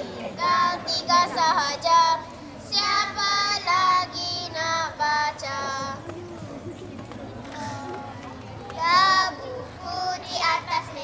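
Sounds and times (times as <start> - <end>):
girls singing through loudspeaker: 0.2 - 6.0, 7.6 - 11.0.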